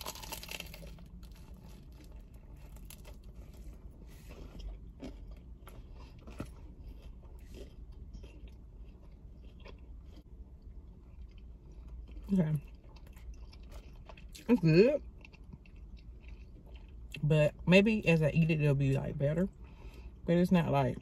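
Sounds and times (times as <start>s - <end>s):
person chewing crispy food: 0.0s - 17.2s
steady low hum: 0.0s - 21.0s.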